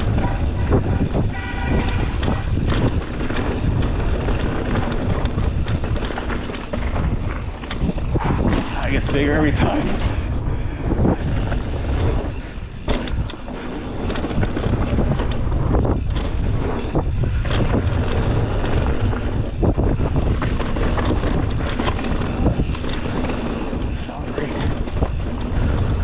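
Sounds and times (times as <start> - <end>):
bike rattling and knocking: 0.0 - 26.0
wind buffeting microphone: 0.0 - 26.0.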